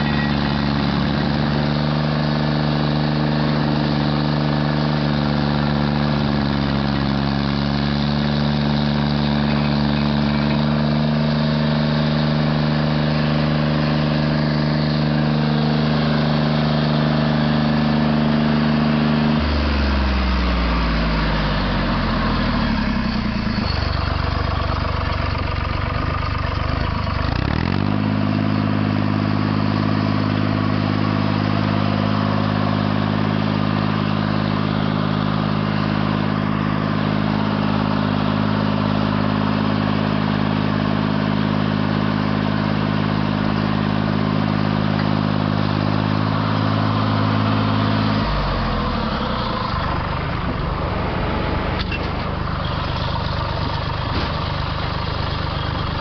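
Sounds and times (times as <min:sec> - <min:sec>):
stump grinder engine running: 0:00.0 - 0:56.0.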